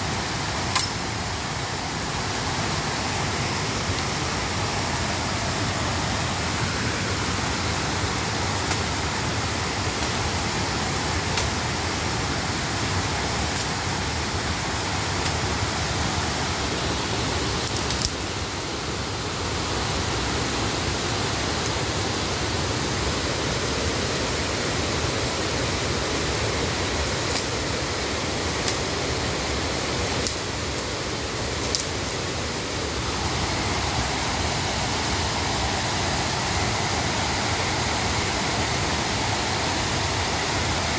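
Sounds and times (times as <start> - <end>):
river rushing over rapids: 0.0 - 40.9.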